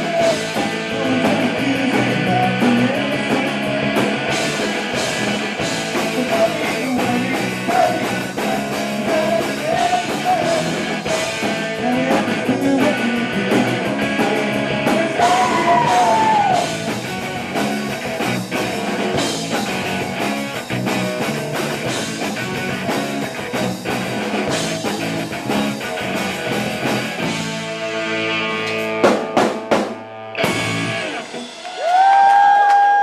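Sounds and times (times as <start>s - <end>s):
drum kit: 0.0s - 33.0s
electric bass: 0.0s - 33.0s
electric guitar: 0.0s - 33.0s.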